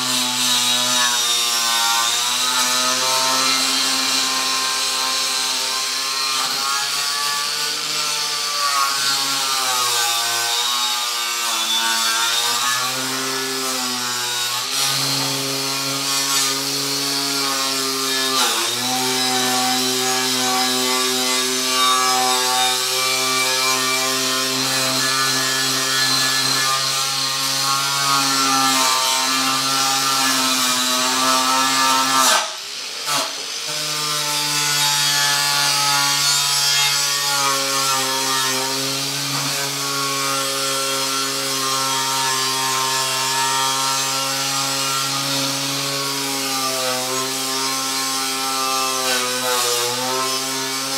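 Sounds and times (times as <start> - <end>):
power tool grinding metal: 0.0 - 50.9.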